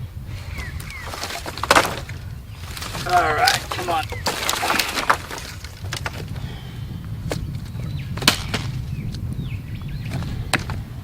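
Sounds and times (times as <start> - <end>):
wood pieces knocking: 0.5 - 9.3, 10.0 - 11.0.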